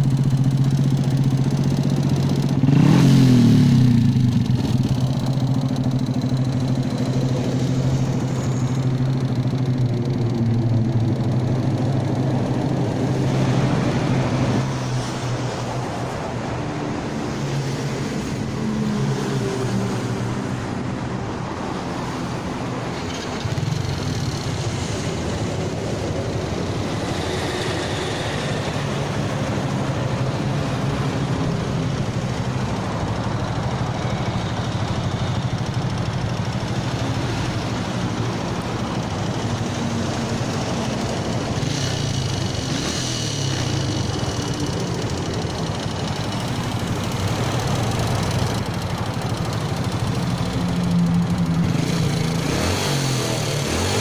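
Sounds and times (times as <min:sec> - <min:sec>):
motorcycle engine idling with rattle: 0:00.0 - 0:54.0.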